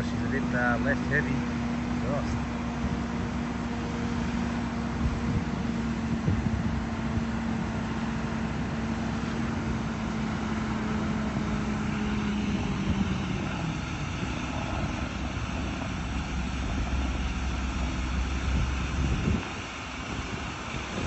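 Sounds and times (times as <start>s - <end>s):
boat motors running: 0.0s - 21.0s
truck engine under load: 0.0s - 21.0s.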